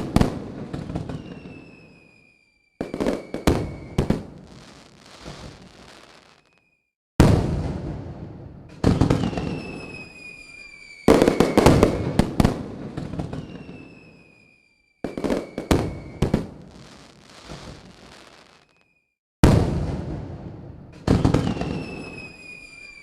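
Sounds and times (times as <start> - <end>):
firework whistles gliding down: 0.2 - 6.9, 8.8 - 19.1, 21.1 - 23.0.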